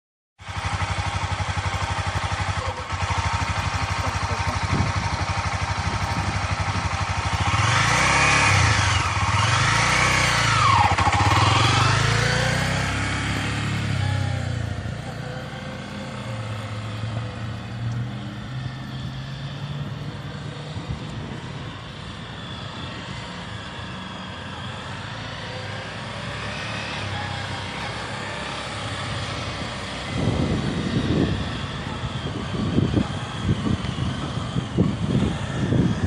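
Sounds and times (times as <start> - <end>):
motorcycle engine running: 0.4 - 36.0.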